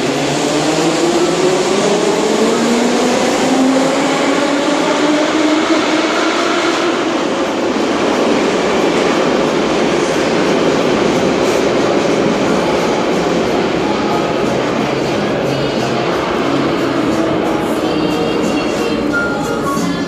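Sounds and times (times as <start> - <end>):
subway wheels rumbling on rails: 0.0 - 20.0.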